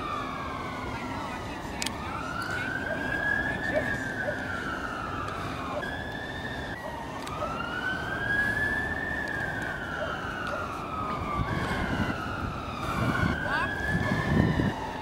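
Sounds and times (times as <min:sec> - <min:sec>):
low background rush: 0:00.0 - 0:15.0
siren wailing: 0:00.0 - 0:15.0.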